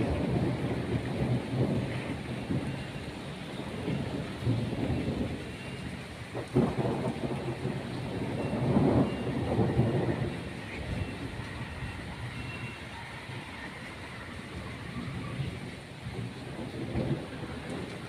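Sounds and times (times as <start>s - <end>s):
heavy rain falling: 0.0s - 18.0s
thunder rumbling: 0.0s - 18.0s.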